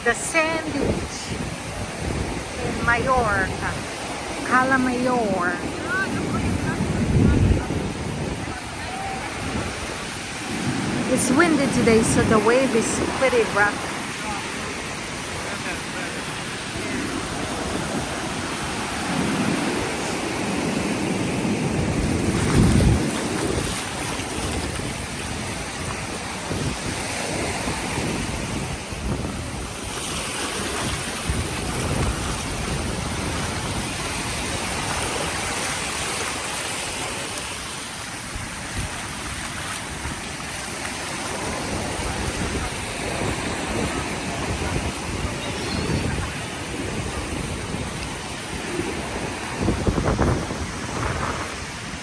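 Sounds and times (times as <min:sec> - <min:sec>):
surf breaking on beach: 0:00.0 - 0:52.0
wind buffeting microphone: 0:00.0 - 0:52.0.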